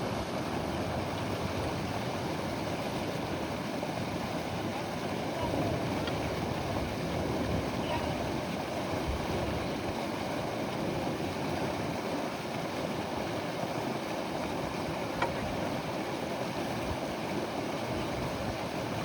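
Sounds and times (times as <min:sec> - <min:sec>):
river water rushing and lapping: 0:00.0 - 0:19.0.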